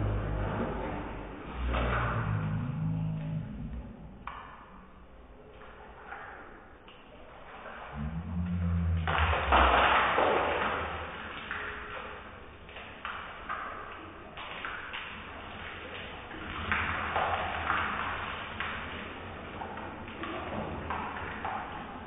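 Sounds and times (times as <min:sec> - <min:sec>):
water splashing on tiled floor: 0:00.0 - 0:22.0.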